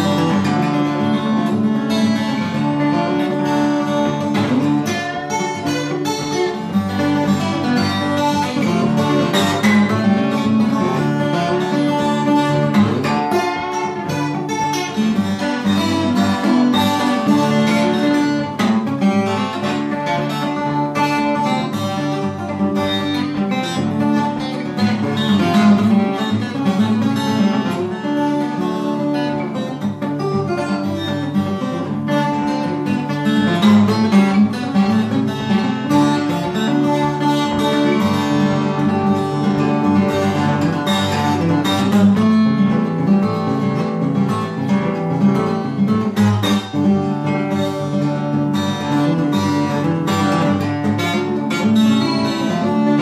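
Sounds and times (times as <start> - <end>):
twelve-string acoustic guitar: 0.0 - 53.0.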